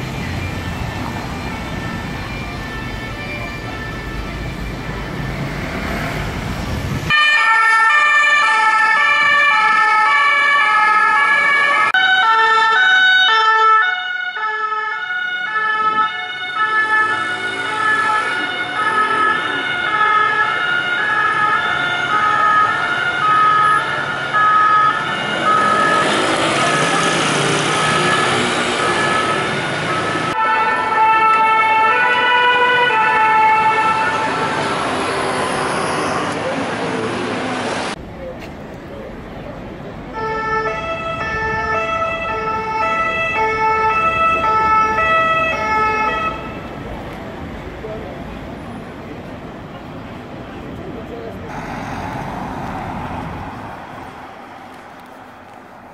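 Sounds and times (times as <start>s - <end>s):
two-tone sirens: 0.0s - 6.4s, 7.0s - 37.6s, 40.1s - 49.2s
street traffic noise: 0.0s - 55.9s.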